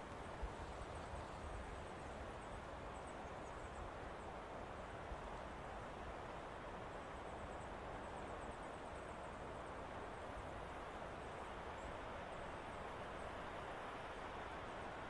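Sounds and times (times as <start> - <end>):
wind through trees: 0.0 - 15.0.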